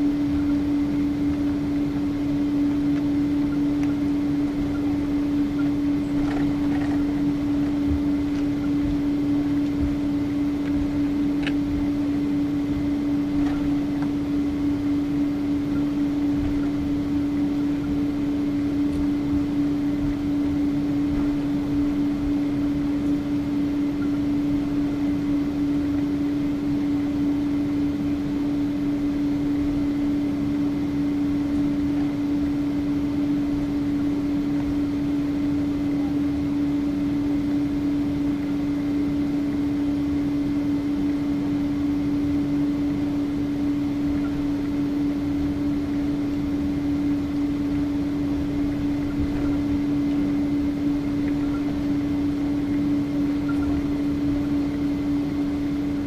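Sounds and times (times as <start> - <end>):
airliner cabin engine hum: 0.0 - 56.0.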